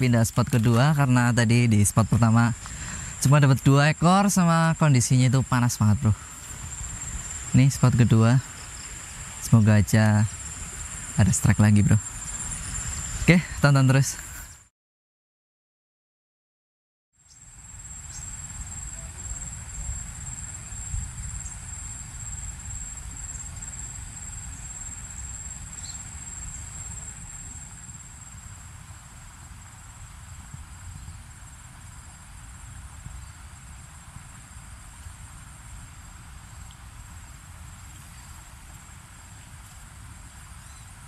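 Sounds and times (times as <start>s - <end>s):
insects chirring: 0.0s - 14.7s, 17.2s - 41.0s.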